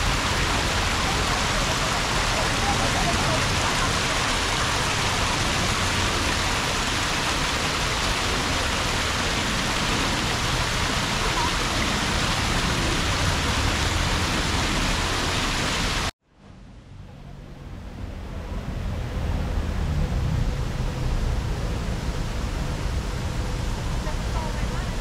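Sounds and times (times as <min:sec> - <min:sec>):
rush of falling water: 0:00.0 - 0:16.2, 0:17.4 - 0:25.0.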